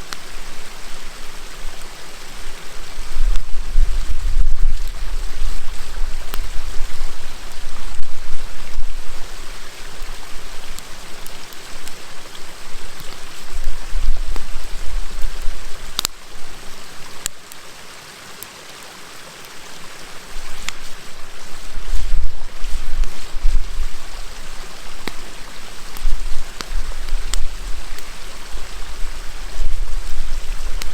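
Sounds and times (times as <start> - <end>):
campfire crackling: 0.0 - 30.9
river flowing: 0.0 - 30.9.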